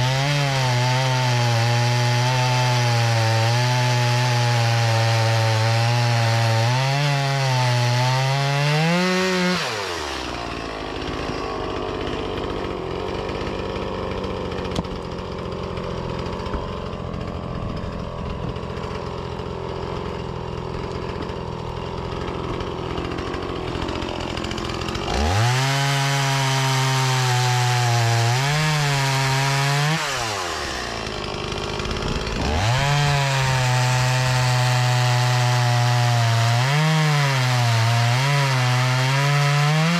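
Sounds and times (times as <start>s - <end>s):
chainsaw cutting log: 0.0s - 39.9s
chainsaw revving: 0.0s - 39.9s.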